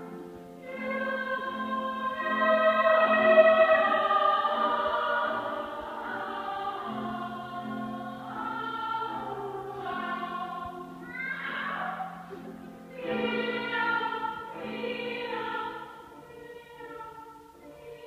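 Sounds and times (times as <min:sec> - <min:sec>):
choir singing sustained chords: 0:00.0 - 0:18.0.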